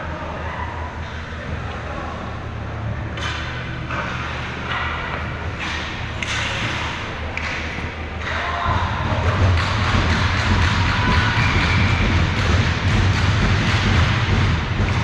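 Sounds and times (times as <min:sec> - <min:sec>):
low arena hum: 0:00.0 - 0:15.0.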